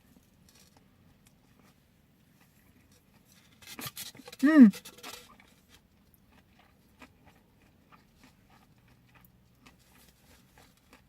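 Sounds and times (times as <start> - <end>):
person chewing: 1.2 - 11.0.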